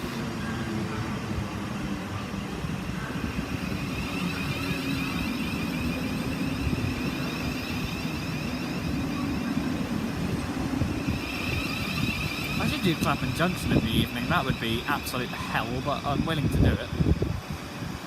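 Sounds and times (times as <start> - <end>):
electric trains rumbling and humming: 0.0 - 18.0
high wavering whine: 0.0 - 18.0.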